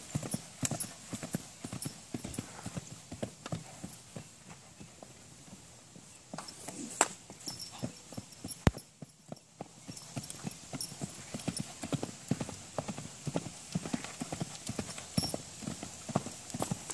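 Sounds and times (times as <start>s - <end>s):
horse hooves cantering on dirt: 0.0s - 16.9s.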